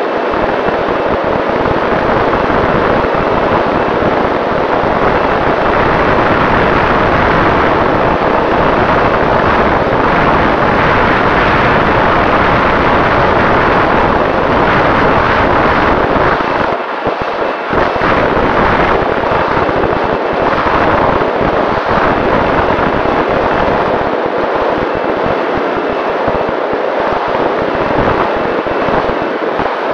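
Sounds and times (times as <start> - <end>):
faint motor and propeller whine: 0.0 - 29.9
loud wind rush on microphone: 0.0 - 29.9.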